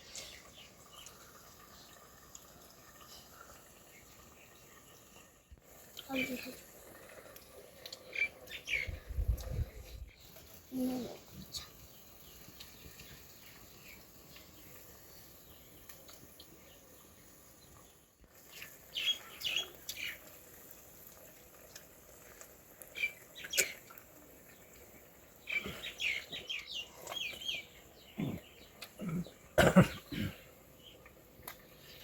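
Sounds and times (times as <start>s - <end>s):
birds chirping: 0.0s - 20.8s, 22.6s - 32.0s.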